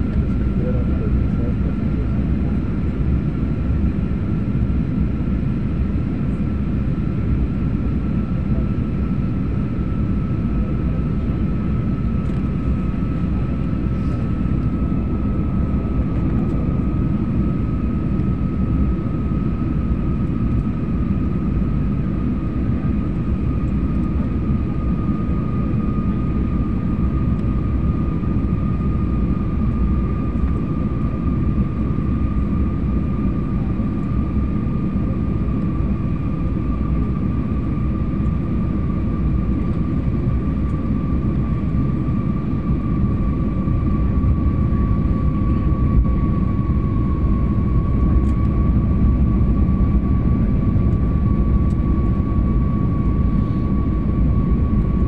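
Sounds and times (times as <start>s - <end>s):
jet engine rumble and rushing air: 0.0s - 55.0s.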